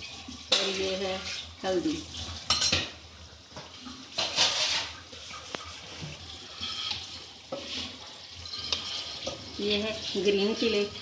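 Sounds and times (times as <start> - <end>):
mince sizzling in a frying pan: 0.0 - 11.0.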